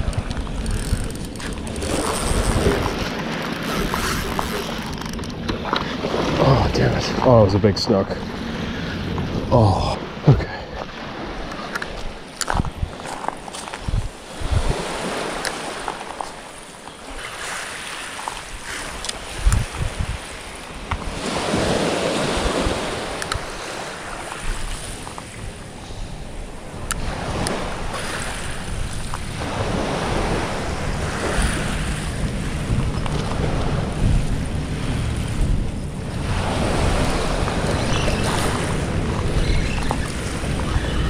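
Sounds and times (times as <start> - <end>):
small waves washing on shore: 0.0 - 41.0
wind rumbling on microphone: 0.0 - 41.0.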